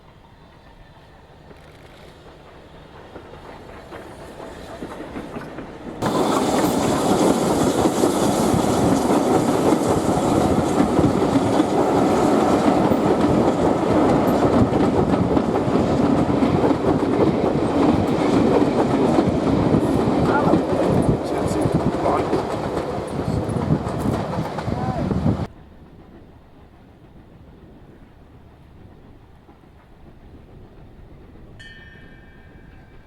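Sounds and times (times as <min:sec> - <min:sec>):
steam train passing: 0:00.0 - 0:33.0
wheels clattering on rails: 0:00.1 - 0:33.0.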